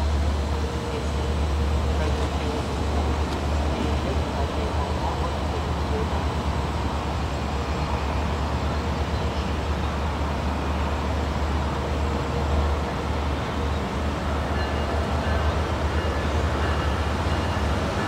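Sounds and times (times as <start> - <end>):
diesel train engine rumble: 0.0 - 18.0
wheel and rail noise: 0.0 - 18.0.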